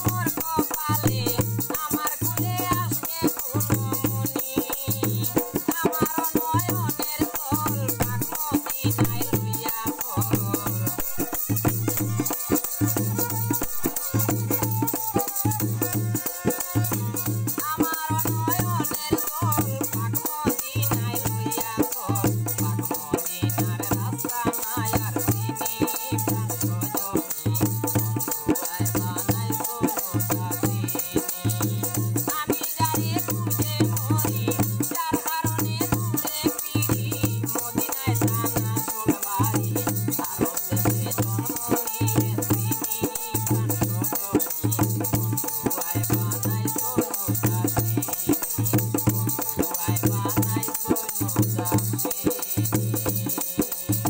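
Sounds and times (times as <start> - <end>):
barrel drum beat: 0.0 - 54.0
hand shaker rattling: 0.0 - 54.0
man singing: 0.0 - 54.0.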